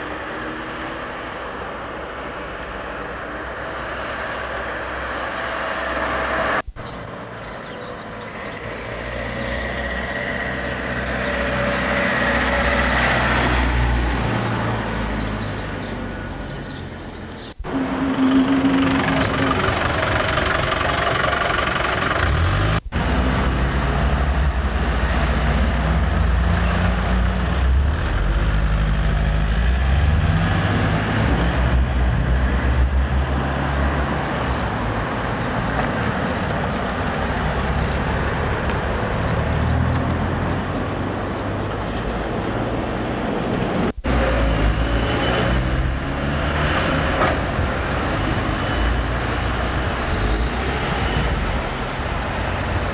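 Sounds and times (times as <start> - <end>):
car engines passing: 0.0 - 52.9.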